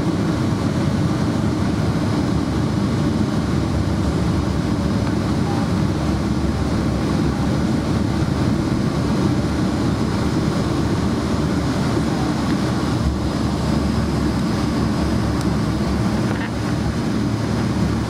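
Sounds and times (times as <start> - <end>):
low aircraft cabin rumble: 0.0 - 18.0.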